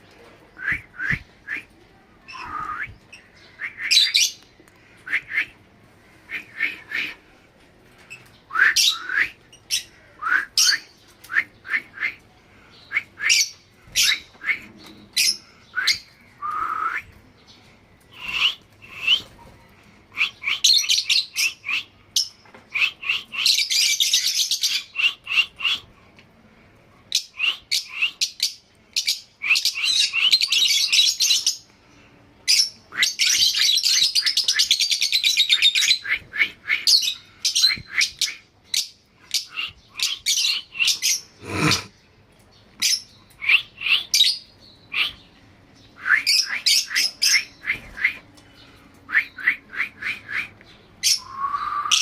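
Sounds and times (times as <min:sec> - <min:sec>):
lovebirds chirping and squawking: 0:02.2 - 0:05.1, 0:05.8 - 0:26.0, 0:27.0 - 0:52.0.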